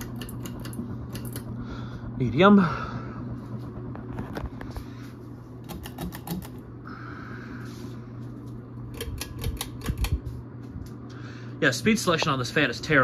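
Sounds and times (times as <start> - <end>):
ceiling fans humming: 0.0 - 13.0.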